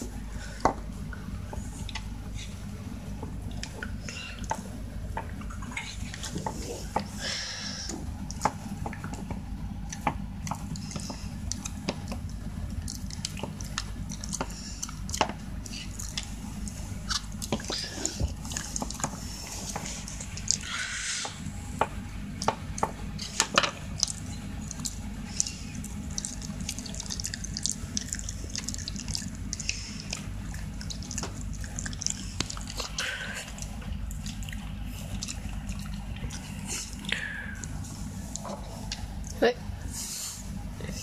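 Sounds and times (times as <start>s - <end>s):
dog chewing and licking: 3.2s - 39.4s.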